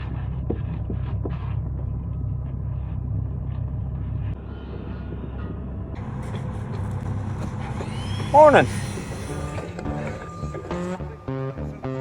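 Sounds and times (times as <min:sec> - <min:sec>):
heavy equipment engine rumbling: 0:00.0 - 0:12.0.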